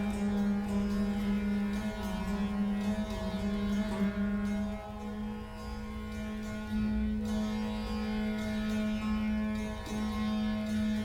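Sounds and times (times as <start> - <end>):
vina sustained low note: 0.0 - 11.0.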